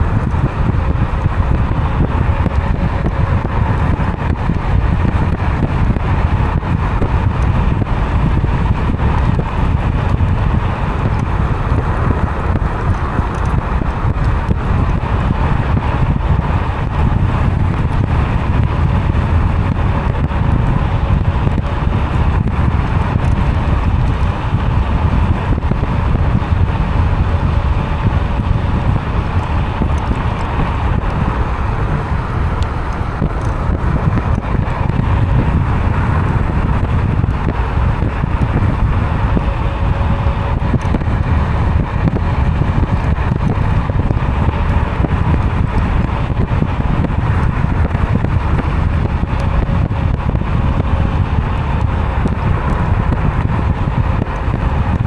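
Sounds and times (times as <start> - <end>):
faint steady whine: 0.0 - 55.0
road and tyre noise: 0.0 - 55.0
wind buffeting microphone: 0.0 - 55.0.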